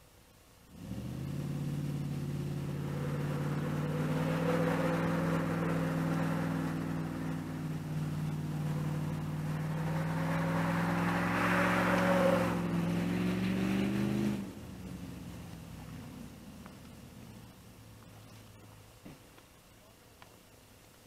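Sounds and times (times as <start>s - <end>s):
engine running: 0.7s - 19.4s.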